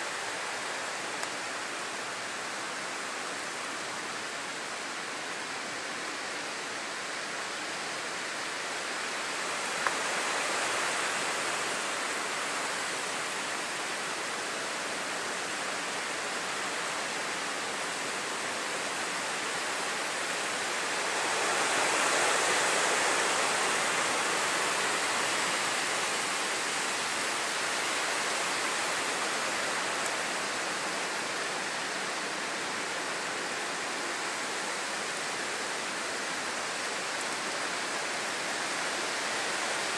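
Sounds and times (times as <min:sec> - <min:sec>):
rain and wind rushing: 0:00.0 - 0:39.9.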